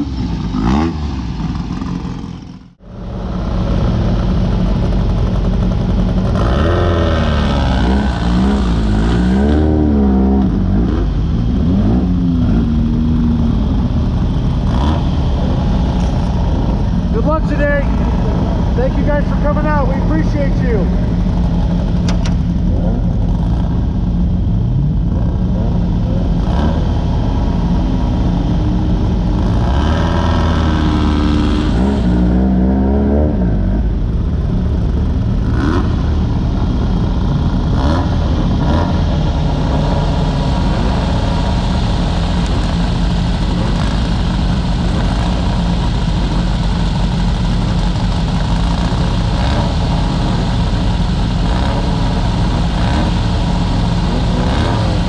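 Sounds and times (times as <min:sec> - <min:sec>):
buggy engine revving: 0:00.0 - 0:55.0
road noise: 0:00.0 - 0:55.0.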